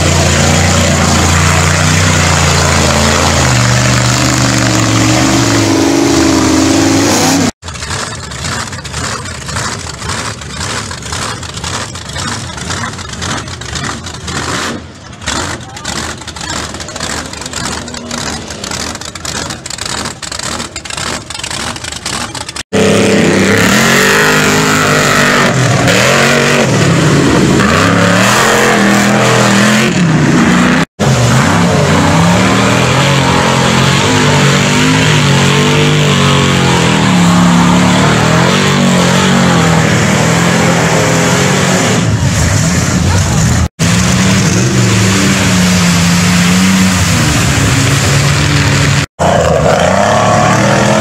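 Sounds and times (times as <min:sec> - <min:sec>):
truck engine pulsing: 0:00.0 - 0:51.0
truck engines revving hard: 0:00.0 - 0:51.0.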